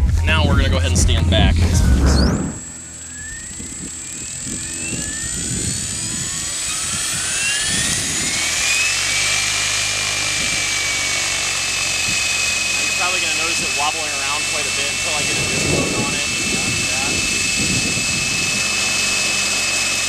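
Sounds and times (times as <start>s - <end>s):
helicopter motor and gear whine: 0.0s - 20.0s
rotor blades swishing: 0.7s - 20.0s.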